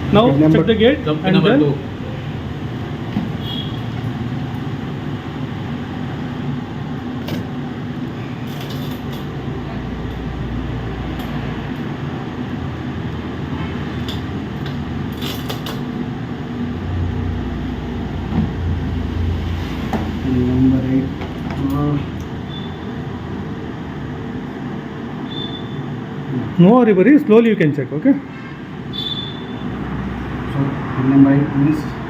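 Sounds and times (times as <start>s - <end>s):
low room rumble and hum: 0.0s - 32.0s.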